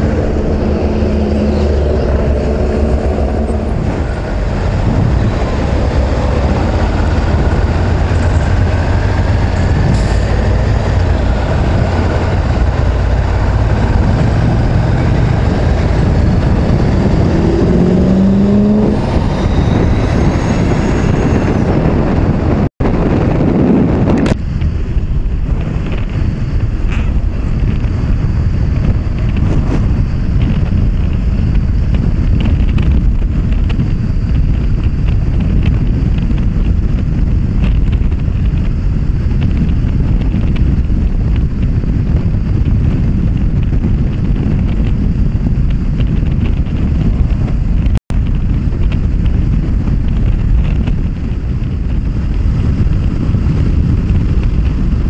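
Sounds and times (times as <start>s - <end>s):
motorcycle engine: 0.0s - 55.0s
passing trucks and cars: 0.0s - 55.0s
wind rush on microphone: 0.0s - 55.0s.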